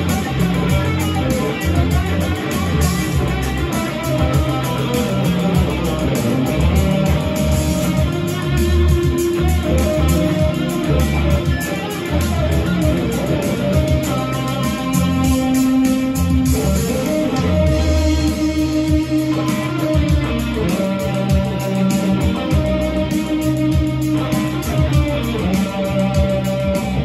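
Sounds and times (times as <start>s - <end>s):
backing track with bass and beat: 0.0s - 27.0s
electric guitar lead: 0.0s - 27.0s.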